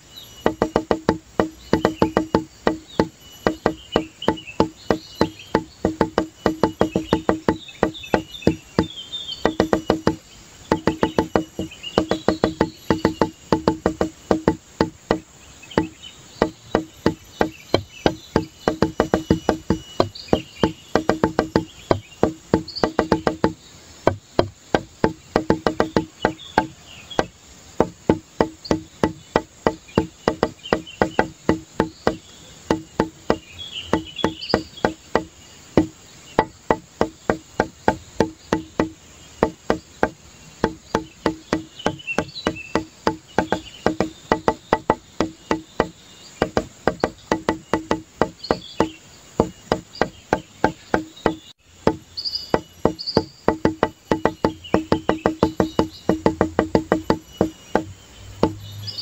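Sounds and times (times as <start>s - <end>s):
background music with wood-block beat: 0.0s - 59.0s
high chirps: 0.0s - 59.0s.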